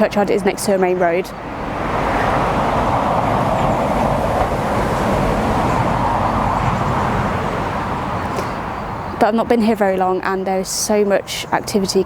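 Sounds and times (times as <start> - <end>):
road traffic rushing by: 0.0 - 12.0.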